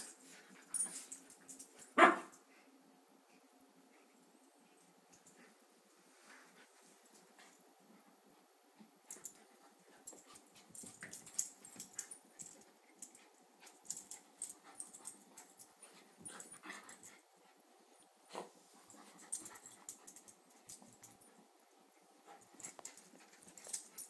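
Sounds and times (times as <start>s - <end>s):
soft dog noises: 0.0s - 24.0s.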